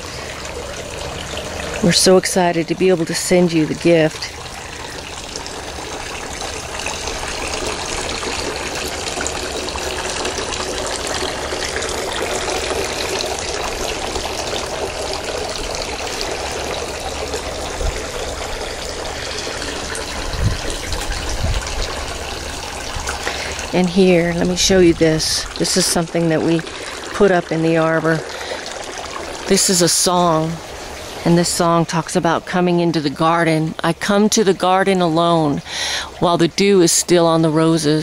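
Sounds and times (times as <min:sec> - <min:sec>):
garden fountain splashing: 0:00.0 - 0:38.0.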